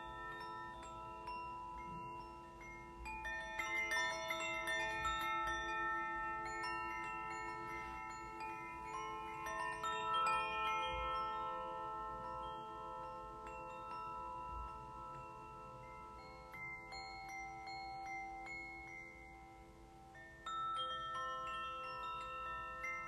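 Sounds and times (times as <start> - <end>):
chimes ringing: 0.0 - 23.0
singing bowl: 0.0 - 23.0.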